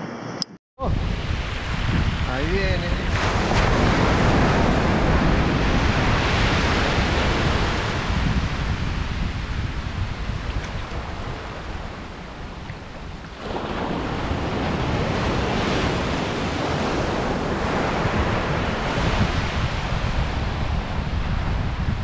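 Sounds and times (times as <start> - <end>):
wind rumbling on microphone: 0.0 - 22.0
surf breaking on sandy beach: 0.8 - 22.0.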